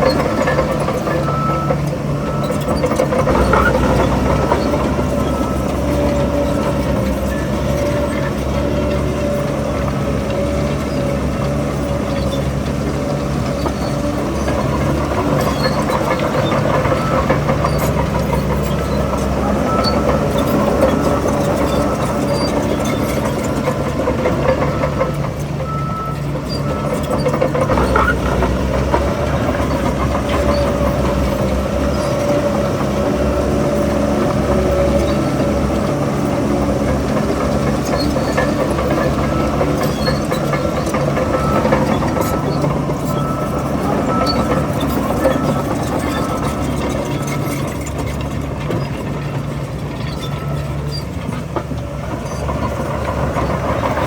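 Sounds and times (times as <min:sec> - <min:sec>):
earthmoving machine diesel engine: 0:00.0 - 0:54.0.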